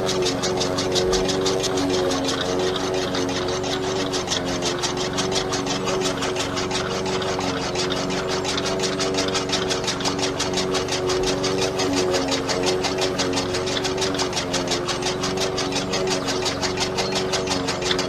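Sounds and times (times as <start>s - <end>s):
engine humming: 0.0s - 18.0s
fast even ticking: 0.0s - 18.0s.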